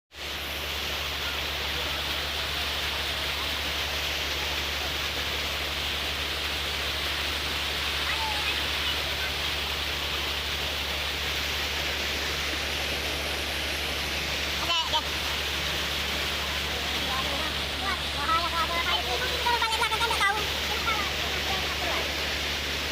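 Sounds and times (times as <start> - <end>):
water rushing: 0.1 - 22.9.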